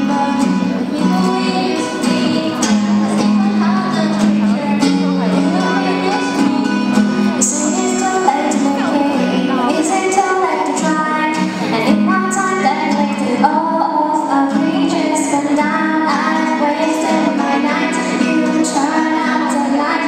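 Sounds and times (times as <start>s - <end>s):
girl singing into microphone: 0.0s - 20.0s
strummed acoustic guitar: 0.0s - 20.0s.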